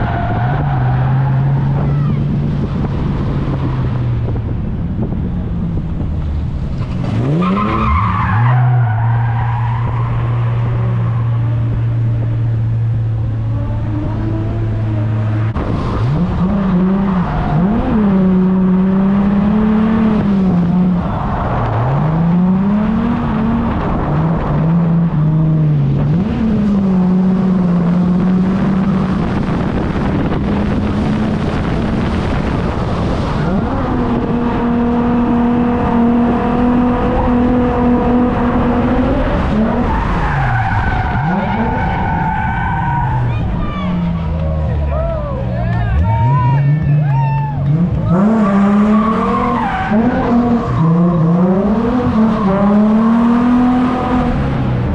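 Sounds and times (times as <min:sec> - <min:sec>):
tyres skidding and squealing: 0:00.0 - 0:04.3, 0:06.3 - 0:54.9
car engine revving hard: 0:06.8 - 0:43.1, 0:45.9 - 0:54.9.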